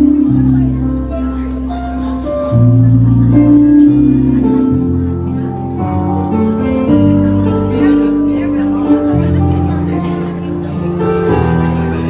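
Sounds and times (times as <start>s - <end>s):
bass line: 0.0s - 12.0s
plucked guitar: 0.0s - 12.0s.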